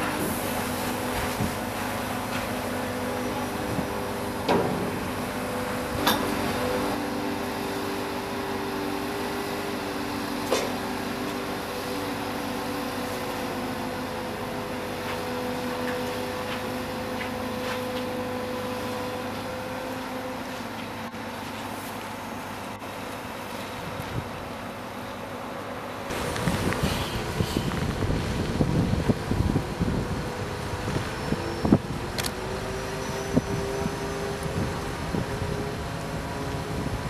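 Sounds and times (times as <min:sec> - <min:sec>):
crane engine and hydraulics hum: 0:00.0 - 0:37.0.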